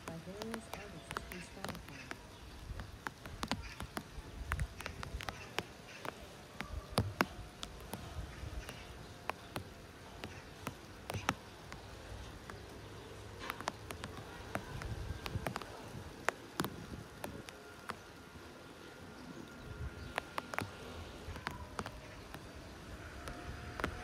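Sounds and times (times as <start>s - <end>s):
sharp clicks and taps: 0.0s - 18.0s, 20.1s - 22.5s
wind rumble on microphone: 0.4s - 10.3s, 13.6s - 18.2s, 19.0s - 24.0s.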